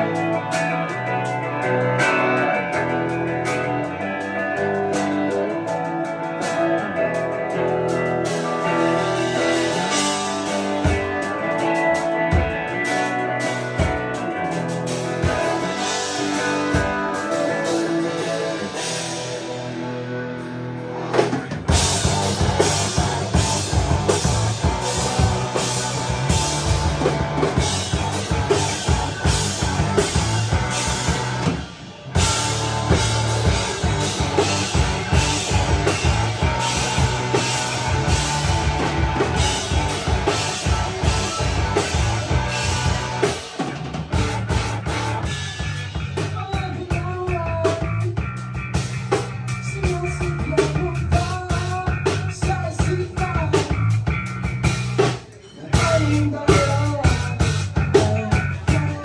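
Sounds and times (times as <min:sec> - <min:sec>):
drum kit beat: 0:00.0 - 0:59.0
electric guitar: 0:00.0 - 0:59.0
live rock band: 0:00.0 - 0:59.0.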